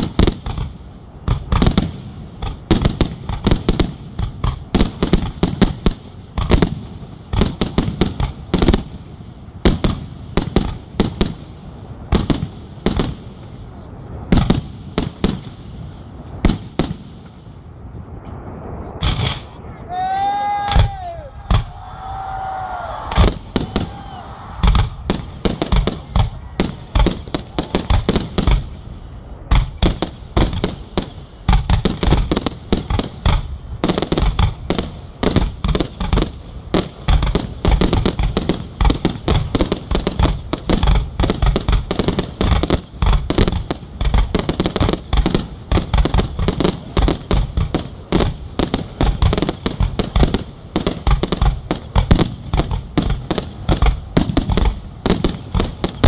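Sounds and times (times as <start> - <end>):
fireworks bangs in rapid barrage: 0.0 - 17.5, 18.2 - 21.9, 23.0 - 28.8, 29.4 - 56.0.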